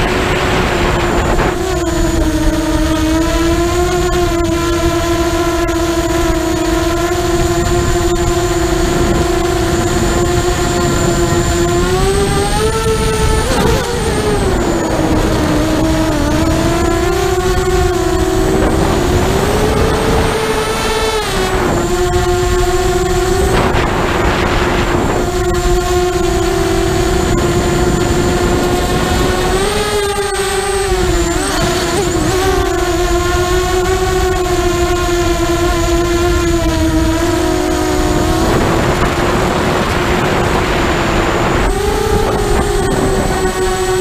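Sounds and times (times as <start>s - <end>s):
wind rushing: 0.0s - 3.0s, 7.2s - 34.4s, 35.8s - 44.0s
drone motors whining: 0.0s - 44.0s.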